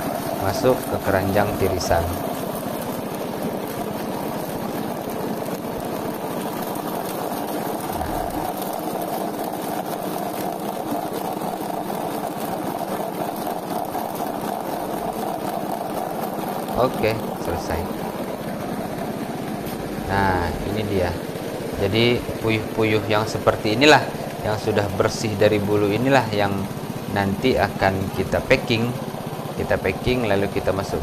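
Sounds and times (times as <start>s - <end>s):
poultry plucker motor running: 0.0s - 31.0s.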